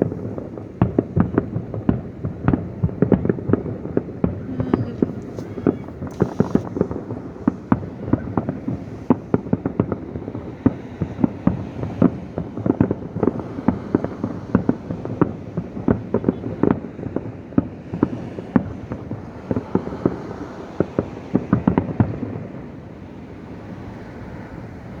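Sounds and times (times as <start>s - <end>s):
fireworks bangs with rumbling echoes: 0.0s - 24.4s.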